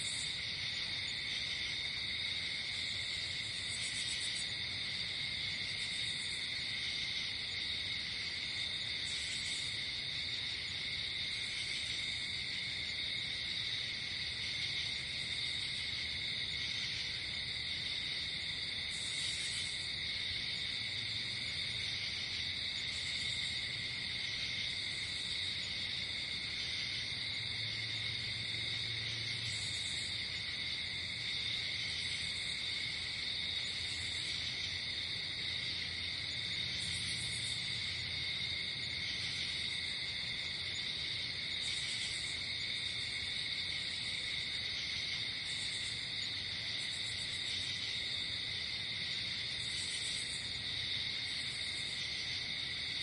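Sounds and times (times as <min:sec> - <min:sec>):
crickets trilling: 0:00.0 - 0:53.0
high pulsing insect call: 0:00.0 - 0:53.0.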